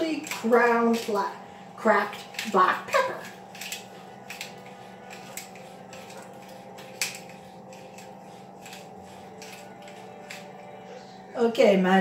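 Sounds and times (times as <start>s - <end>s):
pepper mill grinding: 0.0s - 10.9s
steady low hum: 0.0s - 12.0s.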